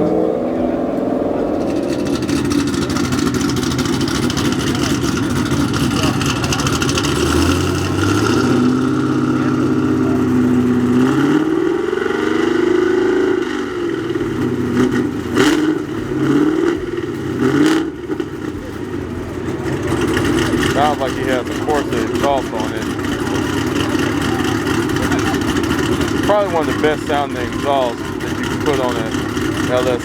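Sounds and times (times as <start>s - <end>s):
engine revving and throttle blips: 0.0s - 30.0s.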